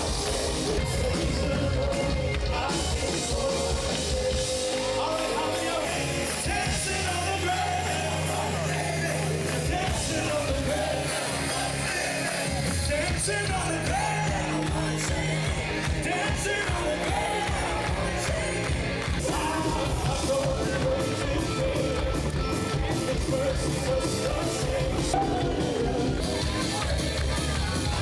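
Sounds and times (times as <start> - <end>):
person singing: 0.0 - 26.8
rock band playing: 0.0 - 28.0.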